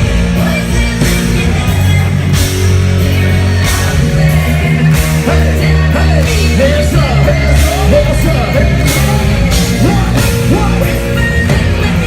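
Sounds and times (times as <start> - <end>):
loud rock concert music: 0.0 - 12.0.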